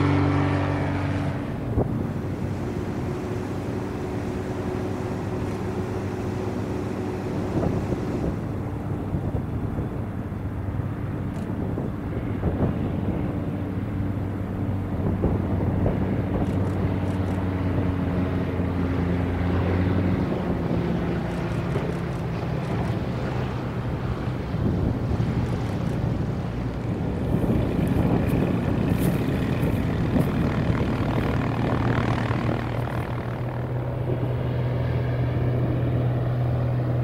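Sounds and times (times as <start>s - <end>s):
propeller plane engine droning: 0.0s - 37.0s.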